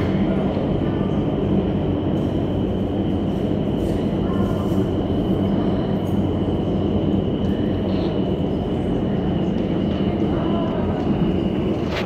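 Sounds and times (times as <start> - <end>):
low rush of fan air: 0.0 - 12.0.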